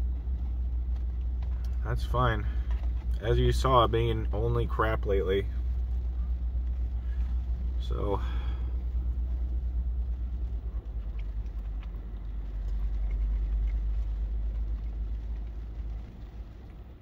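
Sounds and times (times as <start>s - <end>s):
car low rumble: 0.0s - 17.0s.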